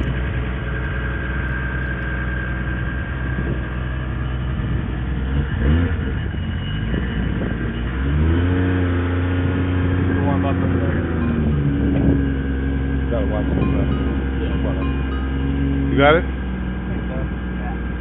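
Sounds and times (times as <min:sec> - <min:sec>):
car engine idling: 0:00.0 - 0:18.0
engine revving: 0:00.0 - 0:18.0.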